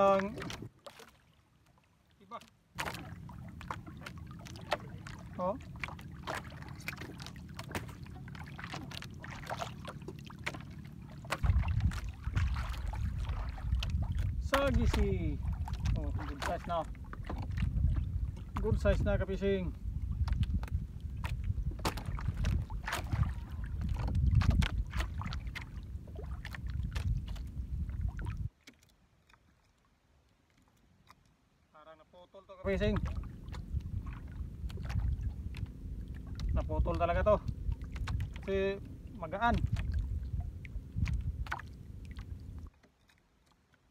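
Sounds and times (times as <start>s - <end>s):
wind rumble on microphone: 0.0s - 0.7s, 3.0s - 28.5s, 32.6s - 42.7s
water lapping against boat hull: 0.0s - 43.9s.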